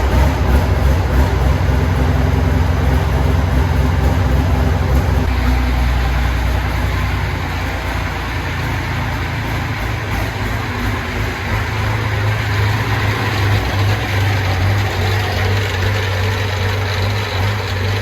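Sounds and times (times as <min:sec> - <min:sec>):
large vehicle engine running: 0:00.0 - 0:18.0.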